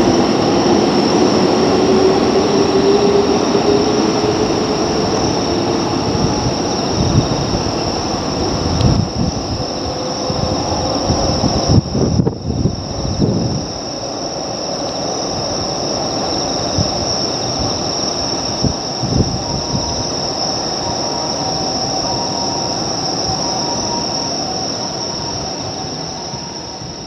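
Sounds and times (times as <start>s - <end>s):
electric train whine: 0.0s - 27.0s
train rumbling: 0.0s - 27.0s.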